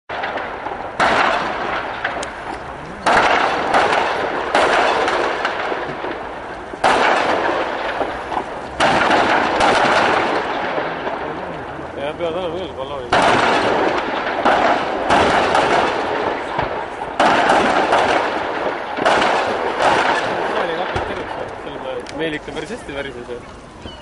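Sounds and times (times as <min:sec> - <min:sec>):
loud explosion blasts: 0:00.1 - 0:22.4.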